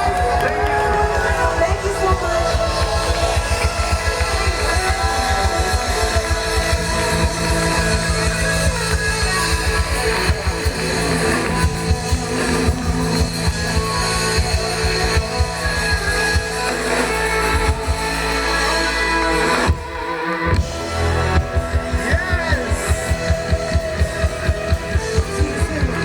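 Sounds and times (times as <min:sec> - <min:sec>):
drum and bass beat: 0:00.0 - 0:26.0
guitar: 0:00.0 - 0:26.0
live rock band playing: 0:00.0 - 0:26.0.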